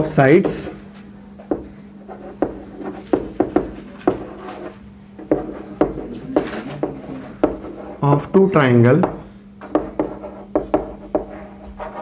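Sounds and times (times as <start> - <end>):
chalk tapping and scraping: 1.4 - 8.3, 9.0 - 12.0.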